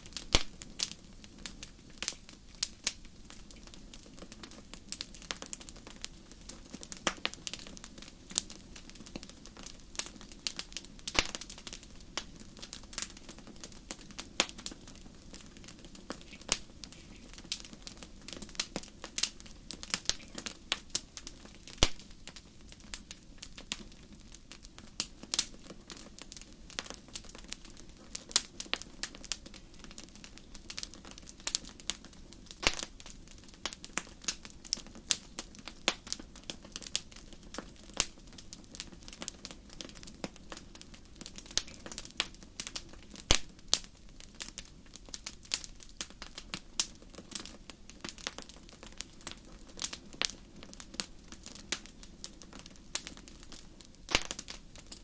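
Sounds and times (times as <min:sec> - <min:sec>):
hiss of flames: 0:00.0 - 0:48.2
wood fire crackling and popping: 0:00.0 - 0:55.0.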